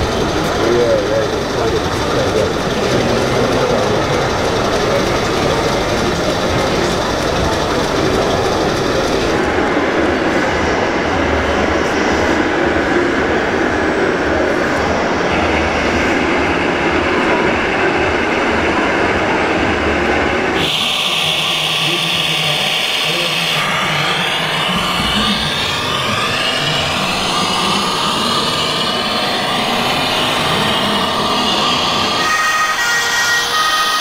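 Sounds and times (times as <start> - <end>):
exhibition hall noise: 0.0 - 34.0.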